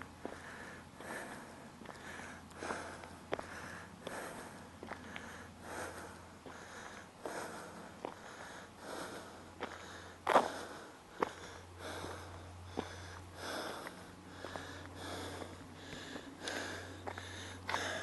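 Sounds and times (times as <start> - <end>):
low steady hum: 0.0 - 18.0
person breathing through nose: 0.4 - 18.0.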